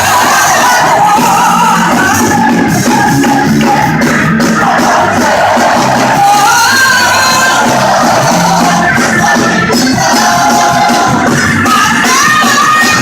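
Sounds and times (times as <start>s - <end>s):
gospel band playing: 0.0s - 13.0s
singing: 0.0s - 13.0s.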